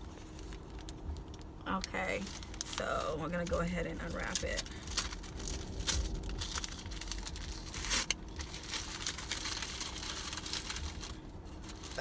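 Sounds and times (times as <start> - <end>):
wrapping rustling and crackling: 0.0 - 12.0.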